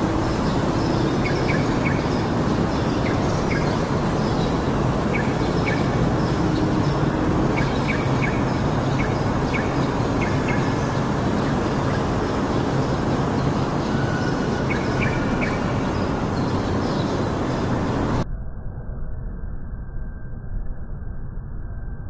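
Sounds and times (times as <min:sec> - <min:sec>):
bird chirping: 0:00.0 - 0:18.2
low background rumble: 0:00.0 - 0:22.0.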